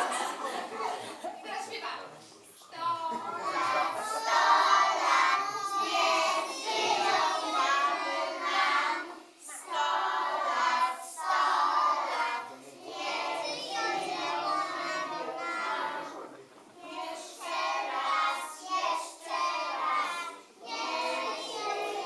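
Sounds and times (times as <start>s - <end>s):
young children singing: 2.8s - 22.0s.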